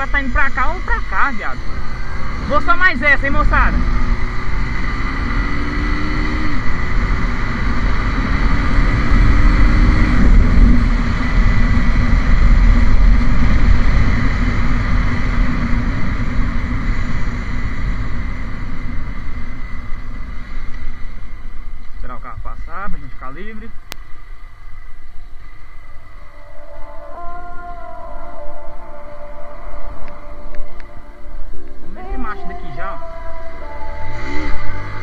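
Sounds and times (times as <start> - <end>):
motorcycle engine revving: 0.0 - 27.0, 29.8 - 35.0.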